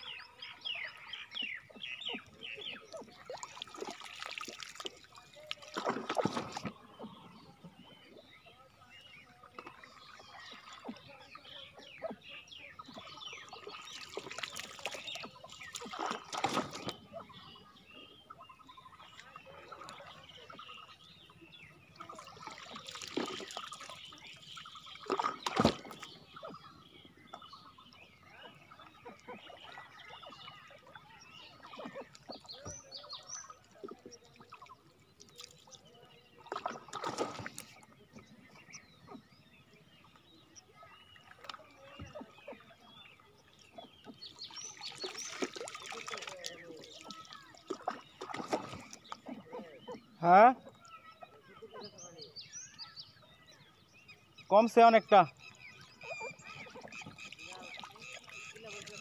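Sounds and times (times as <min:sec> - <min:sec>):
water splashing: 0:00.0 - 0:52.4, 0:54.5 - 0:59.0
water trickling and lapping: 0:00.0 - 0:59.0.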